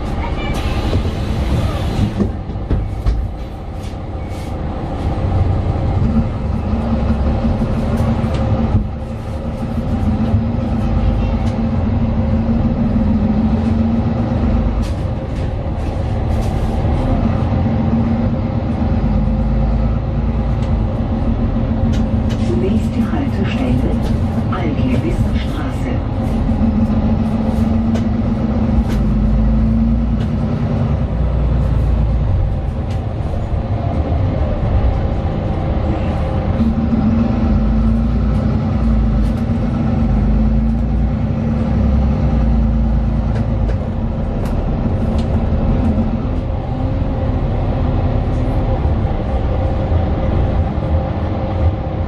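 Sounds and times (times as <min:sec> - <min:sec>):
bus engine rumble: 0:00.0 - 0:52.0.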